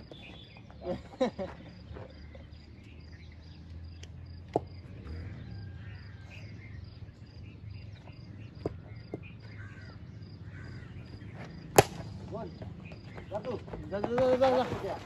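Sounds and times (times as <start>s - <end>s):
insect chirping: 0.0s - 14.1s.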